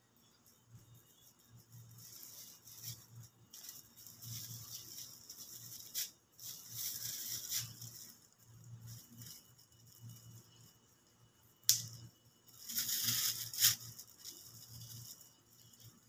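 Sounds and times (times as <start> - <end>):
faint low hum: 0.0 - 16.0
palm fronds and plastic bag rustling: 1.7 - 10.6, 11.8 - 16.0.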